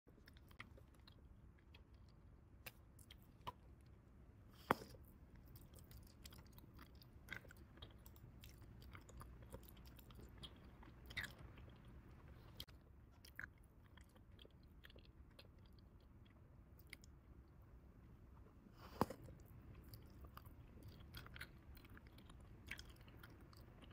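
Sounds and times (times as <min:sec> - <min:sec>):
gum chewing clicks and smacks: 0:00.1 - 0:23.9.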